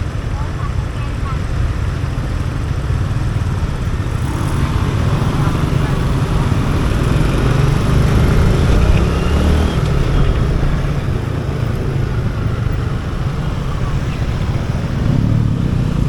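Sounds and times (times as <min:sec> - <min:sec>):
motorcycle engine and road drone: 0:00.0 - 0:16.0.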